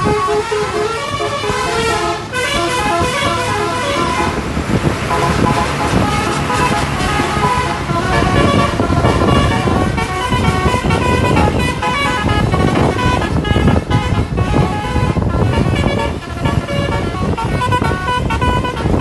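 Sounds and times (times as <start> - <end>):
engine noise: 0.0 - 19.0
multi-tone air horn tune: 0.0 - 19.0
traffic noise: 0.0 - 19.0.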